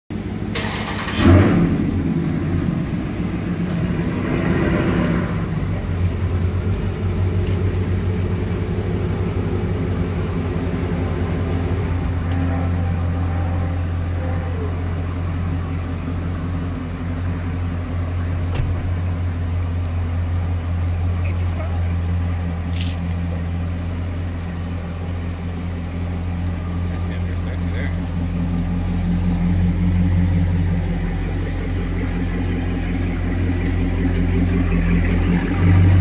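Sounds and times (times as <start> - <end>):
car engine starting and revving: 0.1 - 36.0
deep engine idle: 0.1 - 36.0.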